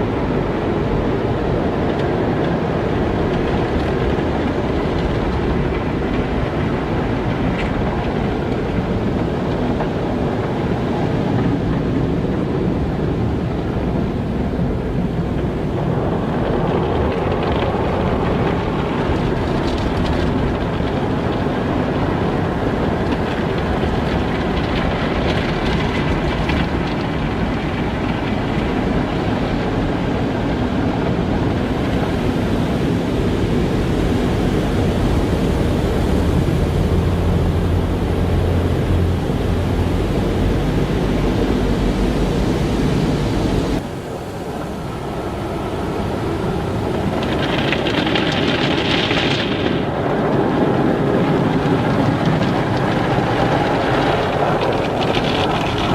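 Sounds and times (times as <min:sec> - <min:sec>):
car wash machinery and water: 0:00.0 - 0:55.9.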